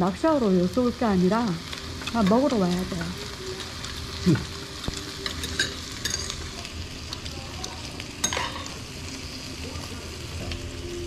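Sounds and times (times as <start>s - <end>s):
meat sizzling on griddle: 0.0s - 11.0s.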